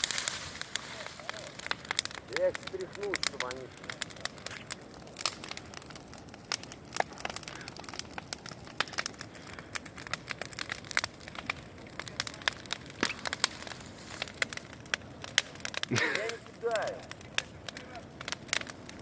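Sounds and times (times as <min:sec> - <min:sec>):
bonfire crackling and popping: 0:00.0 - 0:19.0
low steady hiss: 0:00.0 - 0:19.0.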